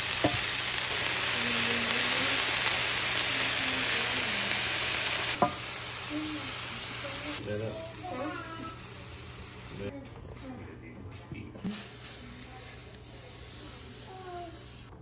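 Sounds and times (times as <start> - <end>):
vegetables sizzling in a frying pan: 0.0 - 9.9, 11.8 - 14.8.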